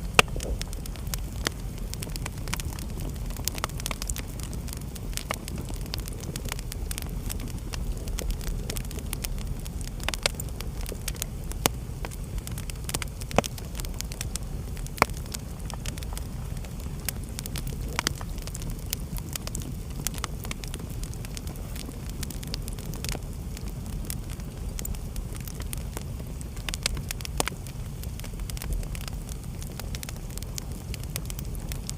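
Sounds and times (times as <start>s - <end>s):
fire popping: 0.0s - 31.9s
wood fire crackling: 0.0s - 31.9s.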